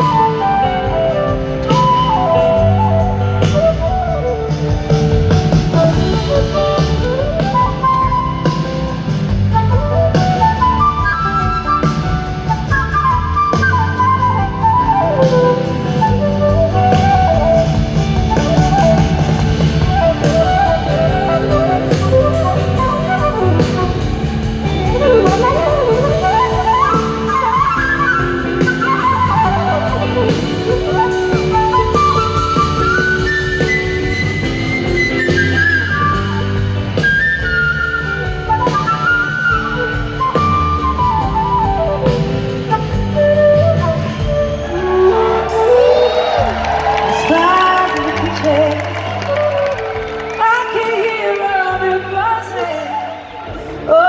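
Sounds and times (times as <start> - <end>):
gliding lead melody: 0.0 - 54.0
rock band playing: 0.0 - 54.0.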